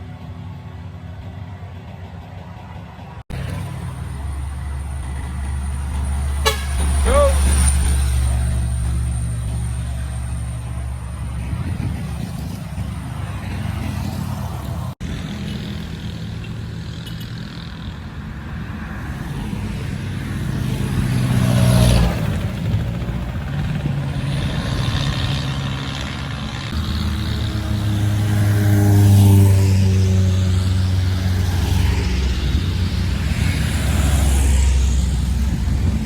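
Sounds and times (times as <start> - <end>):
heavy truck engines labouring: 0.0 - 36.0
vehicle passing: 3.1 - 36.0.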